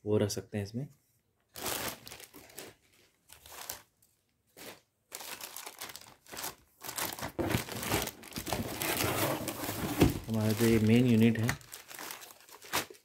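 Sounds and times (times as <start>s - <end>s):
packaging crinkling: 1.5s - 3.9s, 4.6s - 13.0s.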